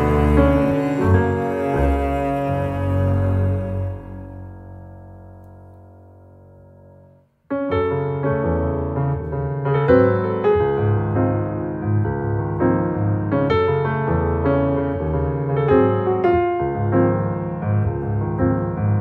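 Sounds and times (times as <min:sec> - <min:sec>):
sustained cello and double bass: 0:00.0 - 0:06.2, 0:07.9 - 0:19.0
solo piano chords: 0:00.0 - 0:19.0.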